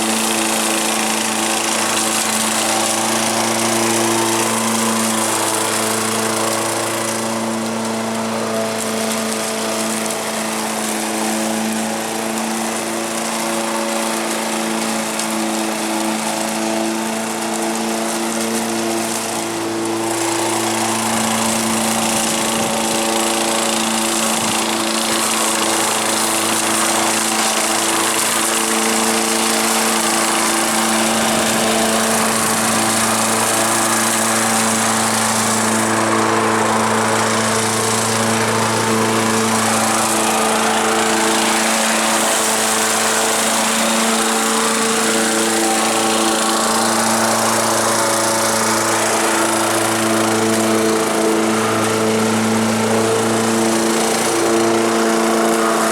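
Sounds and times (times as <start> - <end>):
lawn mower engine running: 0.0 - 55.9.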